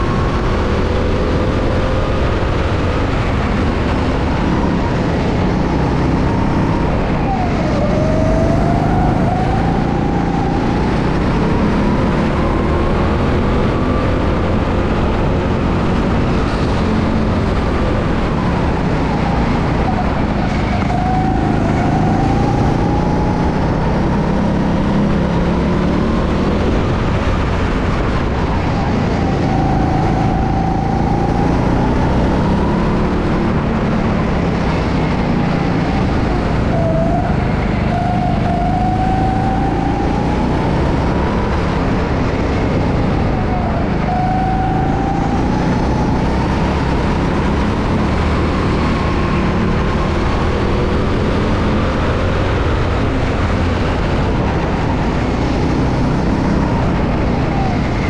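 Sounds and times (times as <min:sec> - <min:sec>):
go-kart motor whining: 0:00.0 - 0:58.0.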